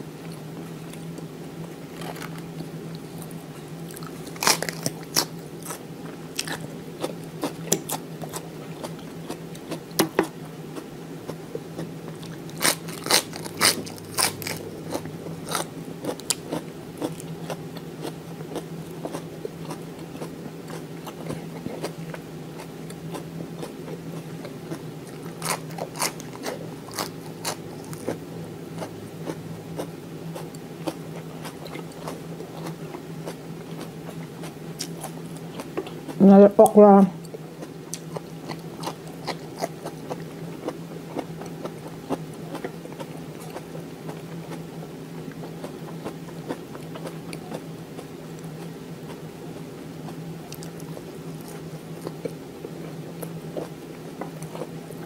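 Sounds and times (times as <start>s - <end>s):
faint low hum: 0.0s - 55.0s
person chewing crisp lettuce: 0.2s - 36.2s, 37.2s - 55.0s.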